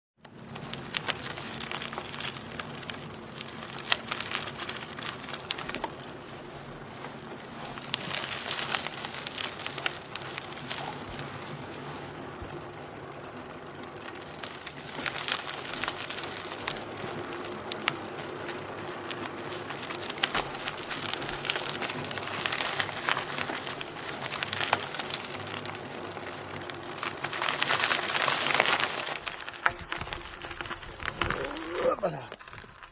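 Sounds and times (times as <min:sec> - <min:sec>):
bicycle clicks and rattles: 0:00.2 - 0:32.9
bicycle tyres crunching on grit: 0:00.2 - 0:32.9.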